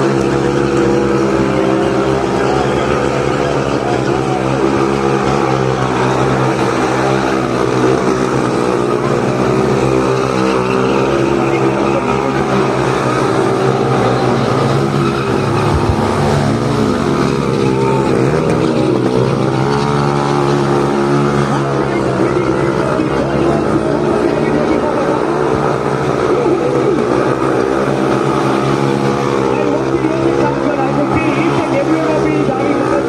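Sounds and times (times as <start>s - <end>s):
motorcycle engines at high revs: 0.0s - 33.0s.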